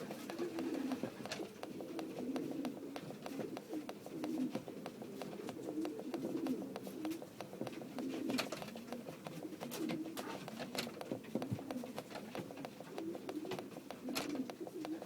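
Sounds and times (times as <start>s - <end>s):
pigeons cooing: 0.0s - 15.0s
sharp clicks and taps: 0.0s - 15.0s.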